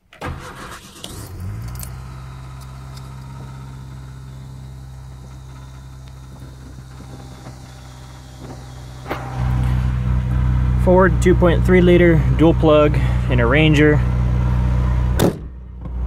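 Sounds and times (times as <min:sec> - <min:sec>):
car engine idling: 0:00.2 - 0:16.0.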